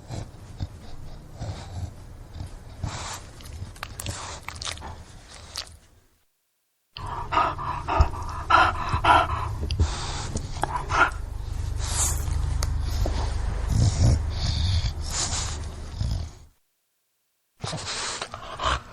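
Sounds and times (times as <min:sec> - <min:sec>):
dog snorting and grunting: 0:00.0 - 0:05.8, 0:07.0 - 0:16.5.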